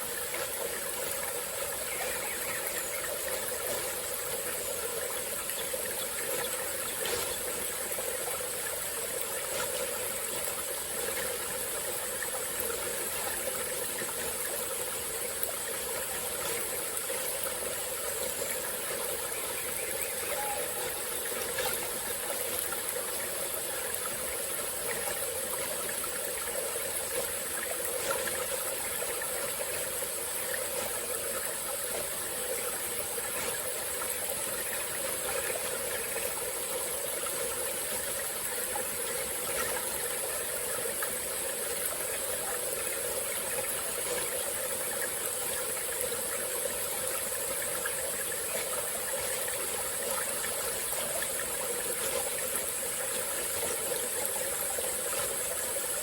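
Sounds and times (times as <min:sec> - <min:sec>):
babbling forest stream: 0:00.0 - 0:56.0.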